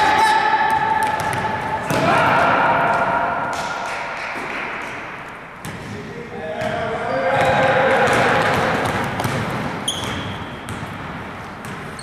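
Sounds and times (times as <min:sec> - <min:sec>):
ball bouncing on court: 0:00.0 - 0:04.9, 0:05.6 - 0:06.0, 0:06.6 - 0:12.0.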